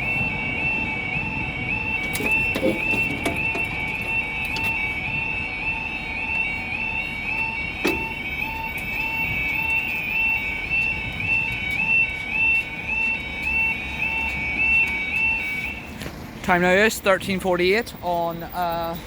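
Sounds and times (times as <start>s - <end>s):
level crossing alarm pulsing: 0.0s - 19.0s.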